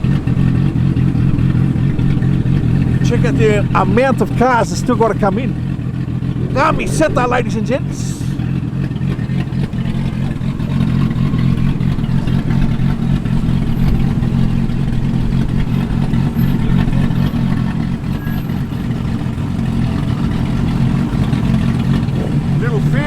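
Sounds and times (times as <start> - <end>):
car engine rumbling past: 0.0 - 23.0.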